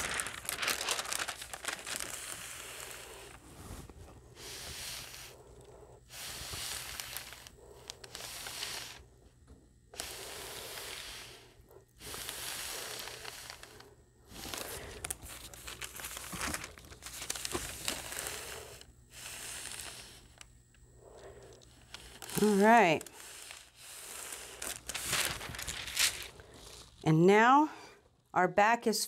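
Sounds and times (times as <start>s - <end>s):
iron swishing over crinkling paper: 0.0s - 9.1s, 9.9s - 27.6s.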